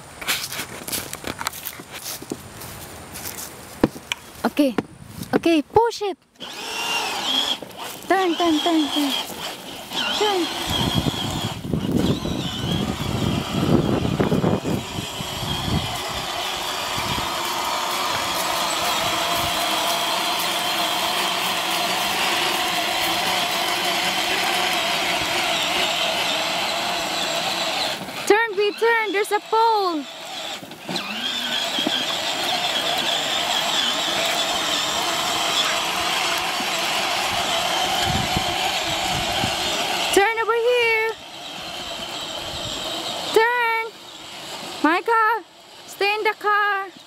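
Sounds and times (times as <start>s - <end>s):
plastic wheels rumbling: 6.4s - 45.1s
toy car electric motor whine: 6.4s - 47.0s.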